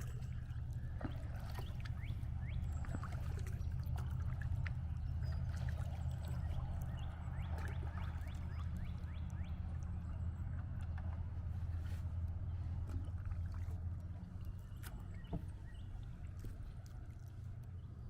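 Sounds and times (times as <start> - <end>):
water dripping off paddle blades: 0.0 - 17.8
steady low rumble: 0.0 - 18.0.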